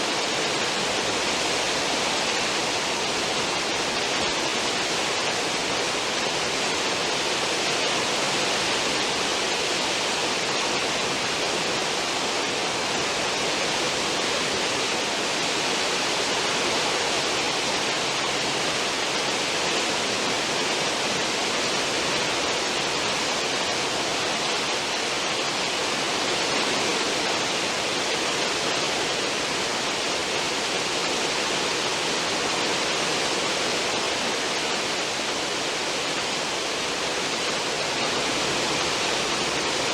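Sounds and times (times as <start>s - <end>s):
rushing foaming water wake: 0.0s - 39.9s.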